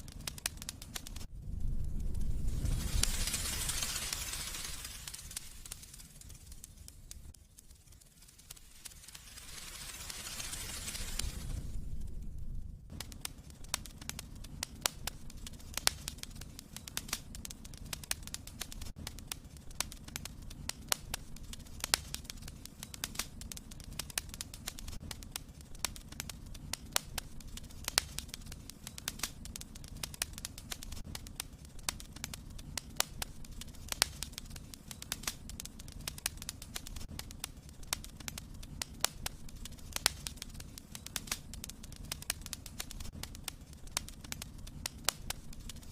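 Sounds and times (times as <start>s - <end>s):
low rumble of flames: 0.0s - 45.9s
wood fire crackling: 0.0s - 45.9s.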